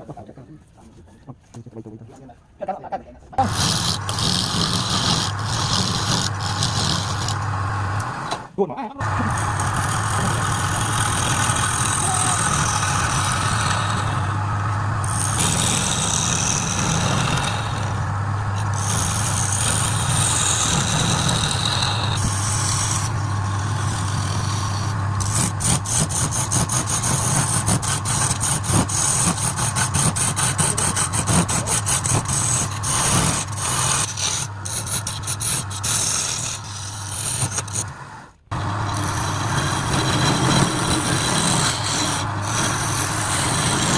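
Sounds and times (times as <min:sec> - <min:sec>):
lathe motor hum: 0:03.4 - 0:43.9
tool scraping spinning wood: 0:03.4 - 0:43.9.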